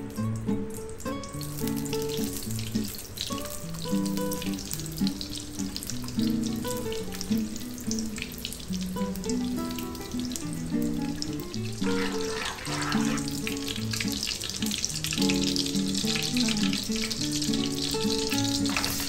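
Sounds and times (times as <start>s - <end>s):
butter sizzling and crackling: 0.3s - 19.0s.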